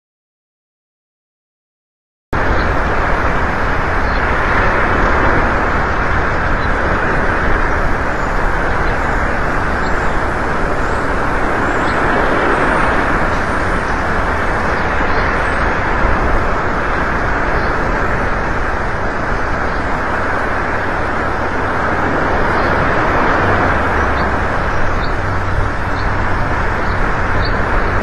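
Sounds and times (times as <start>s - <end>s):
wind buffeting microphone: 2.4s - 28.0s.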